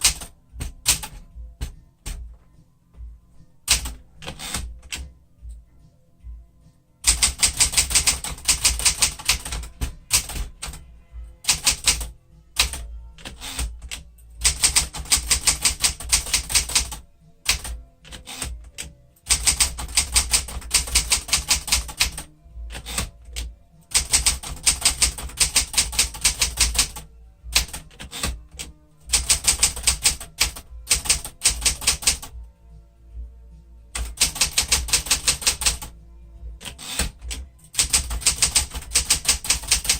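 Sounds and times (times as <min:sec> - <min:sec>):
manual typewriter typing: 0:00.0 - 0:02.3, 0:03.6 - 0:05.1, 0:07.0 - 0:32.4, 0:33.9 - 0:36.0, 0:36.6 - 0:39.9.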